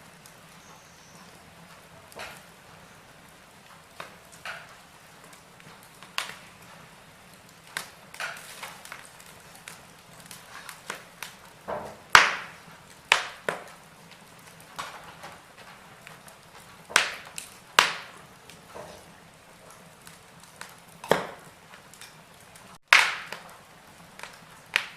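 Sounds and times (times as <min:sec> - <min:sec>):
wood fire crackling and popping: 0:00.0 - 0:24.9.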